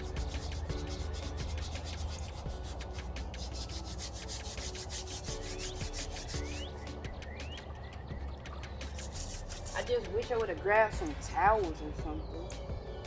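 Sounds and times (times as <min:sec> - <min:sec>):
scrubbing rusty metal: 0:00.0 - 0:07.8, 0:08.7 - 0:11.8.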